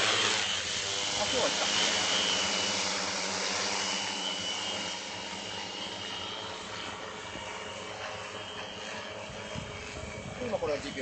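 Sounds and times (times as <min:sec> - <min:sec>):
multicopter motors humming: 0:00.0 - 0:11.0
propeller rushing hiss: 0:00.0 - 0:11.0.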